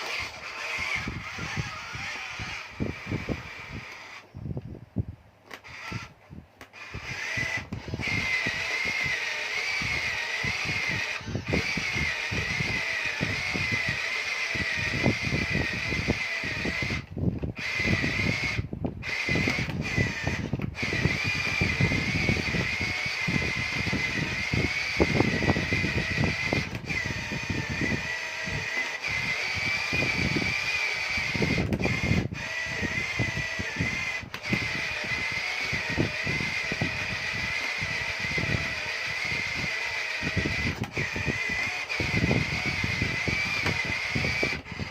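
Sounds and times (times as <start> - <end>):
small electric motor whine: 0.0 - 44.9.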